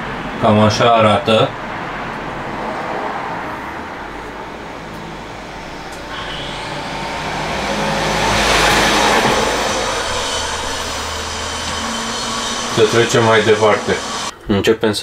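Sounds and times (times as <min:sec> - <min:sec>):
road vehicle passing by: 0:00.0 - 0:14.3.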